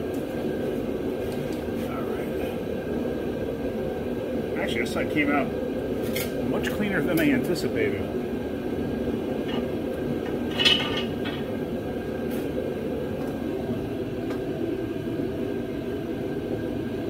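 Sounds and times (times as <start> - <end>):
low mechanical drone: 0.0 - 17.0.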